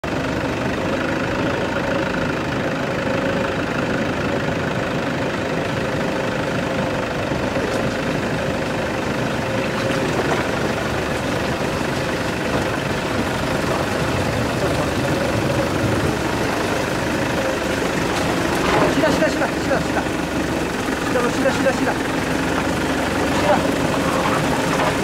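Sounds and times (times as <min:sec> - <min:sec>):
car engine running at low speed: 0:00.0 - 0:25.0.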